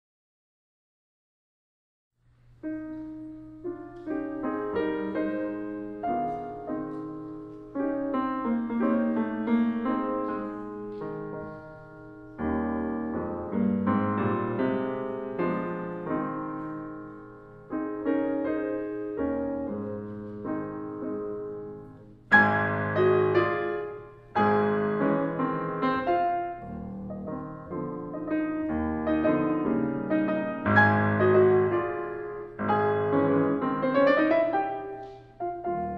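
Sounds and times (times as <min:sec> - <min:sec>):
slow solo piano: 0:02.4 - 0:35.9.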